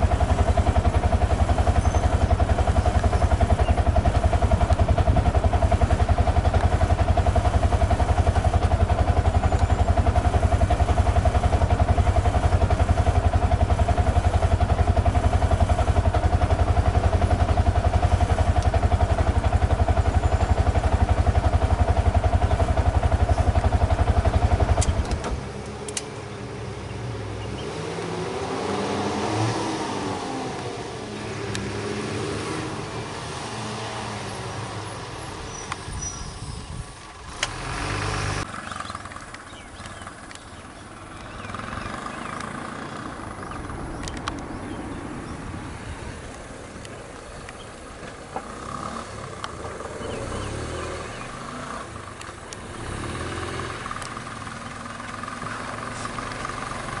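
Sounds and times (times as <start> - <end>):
auto-rickshaw engine: 0.0 - 57.0
vehicle engines idling: 0.0 - 57.0.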